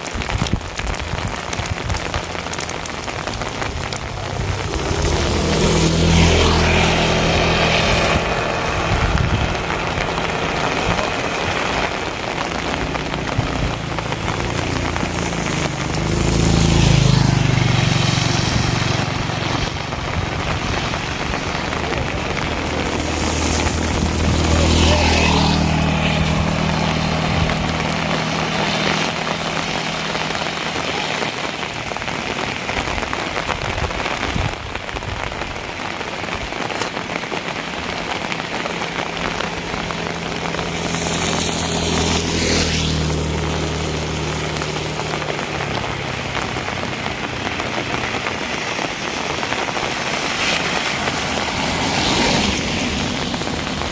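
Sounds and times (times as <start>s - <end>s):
rain on hard surfaces: 0.0s - 53.9s
vehicles passing on wet road: 0.0s - 53.9s.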